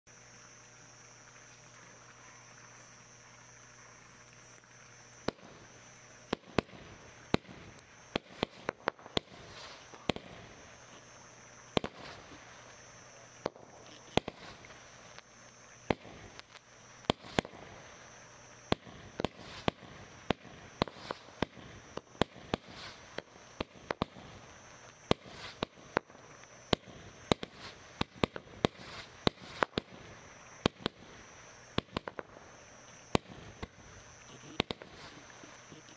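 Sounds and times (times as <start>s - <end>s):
firework sharp pops: 1.2s - 35.9s.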